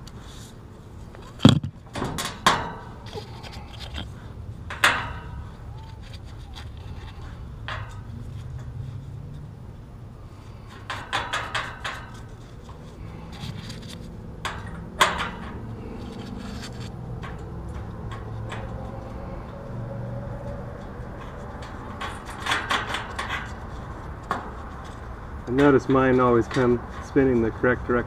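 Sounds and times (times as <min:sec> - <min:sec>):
steady low hum: 0:00.0 - 0:27.9
bolts rattling against metal grille: 0:01.2 - 0:08.9, 0:10.6 - 0:28.0.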